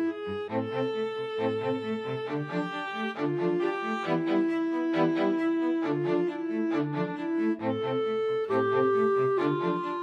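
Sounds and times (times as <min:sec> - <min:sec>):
bowed string music: 0:00.0 - 0:10.0.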